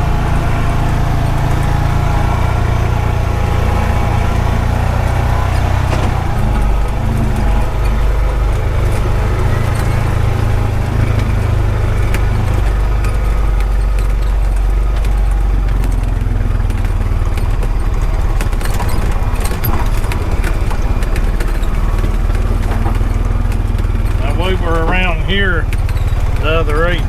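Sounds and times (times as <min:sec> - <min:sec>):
single-cylinder engine running: 0:00.0 - 0:27.0.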